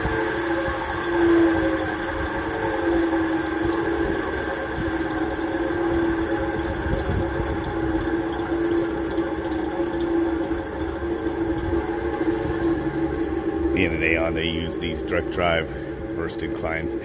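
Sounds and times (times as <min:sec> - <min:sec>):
bearings ticking: 0:00.0 - 0:17.0
fan motor droning hum: 0:00.0 - 0:17.0.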